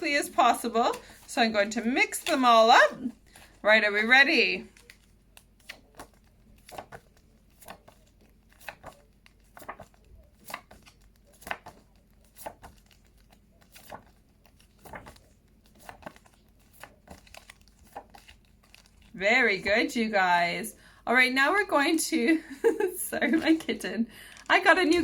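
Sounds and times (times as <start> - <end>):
flashcards rustling and flipping: 0.1 - 20.0, 23.2 - 25.0.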